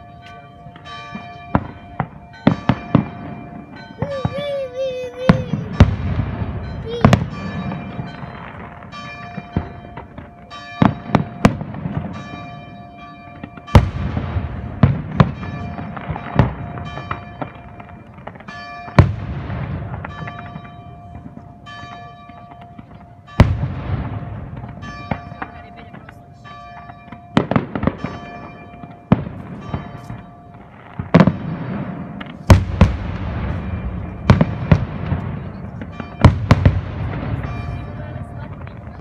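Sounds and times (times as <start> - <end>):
loud firework bangs: 1.5 - 4.7, 5.3 - 12.3, 13.6 - 20.6, 23.4 - 26.0, 27.1 - 28.5, 29.1 - 39.0
fireworks rumbling bursts: 1.5 - 12.3, 13.6 - 21.5, 22.7 - 26.2, 27.0 - 39.0.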